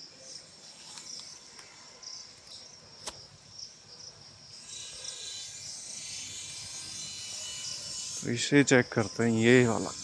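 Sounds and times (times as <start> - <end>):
high buzzing insect chorus: 0.0 - 10.0
insects chirping in pulses: 0.0 - 10.0.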